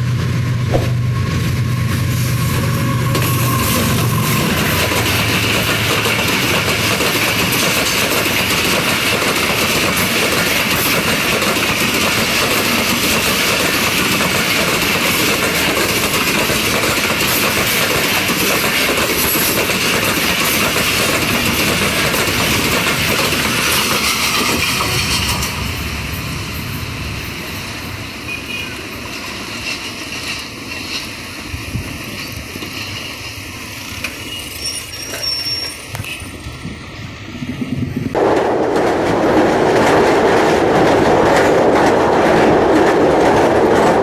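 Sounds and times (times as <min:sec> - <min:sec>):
train wheels on track: 0:00.0 - 0:44.0.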